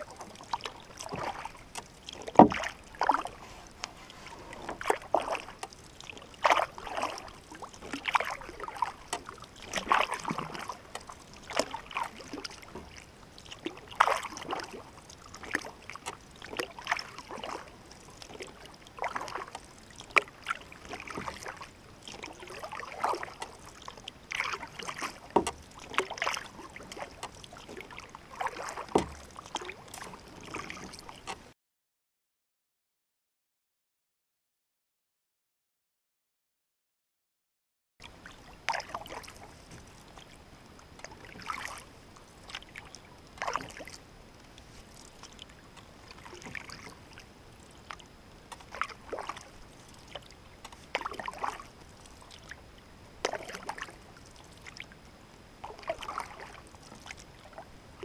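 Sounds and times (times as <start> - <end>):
paddle splashing through water: 0.0 - 31.5, 38.0 - 55.0, 55.6 - 58.0.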